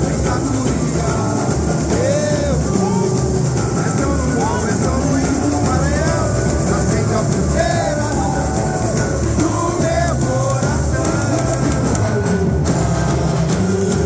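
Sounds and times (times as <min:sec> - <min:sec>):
band accompaniment: 0:00.0 - 0:14.0
sung melody: 0:00.0 - 0:14.0.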